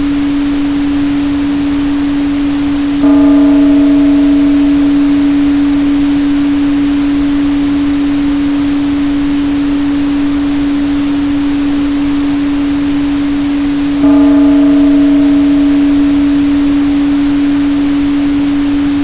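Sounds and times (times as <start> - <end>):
noise hiss: 0.0 - 19.0
steady tonal hum: 0.0 - 19.0
ringing struck tone: 2.6 - 19.0.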